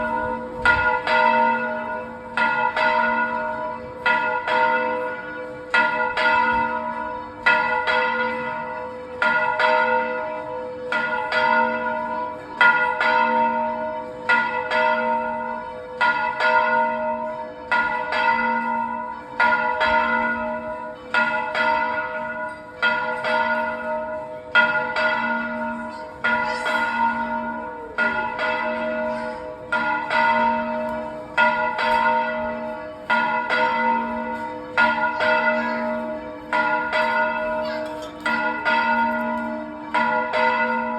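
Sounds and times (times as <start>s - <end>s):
church bell ringing: 0.0s - 40.9s.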